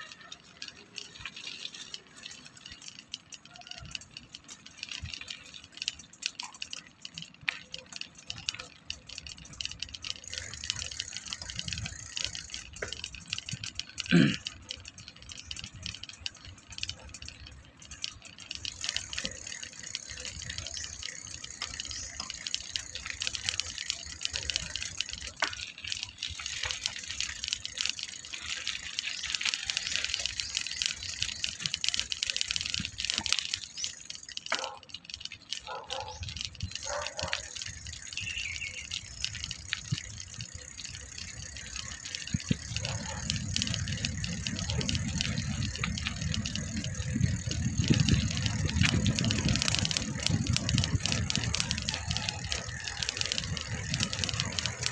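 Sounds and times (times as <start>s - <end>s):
rattling road noise: 0.0s - 54.9s
small clicks and knocks: 0.0s - 54.9s.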